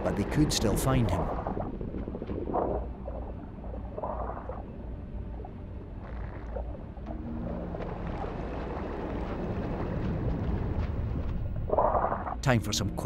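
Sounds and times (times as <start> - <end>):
low underwater rumble: 1.0 - 12.4.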